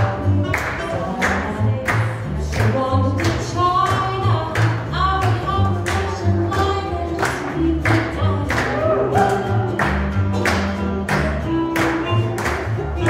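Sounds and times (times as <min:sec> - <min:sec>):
swing jazz dance music: 0:00.0 - 0:13.0.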